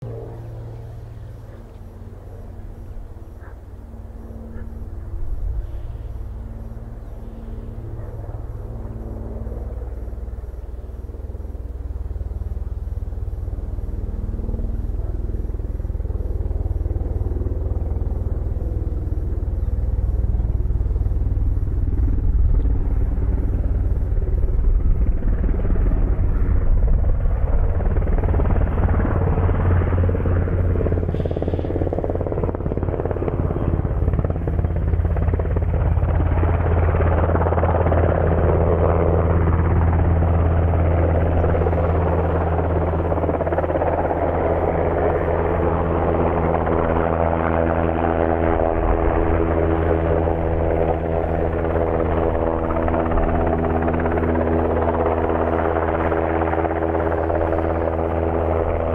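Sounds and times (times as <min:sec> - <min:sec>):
helicopter rotors beating: 0:00.0 - 0:58.9
steady hum: 0:00.0 - 0:58.9.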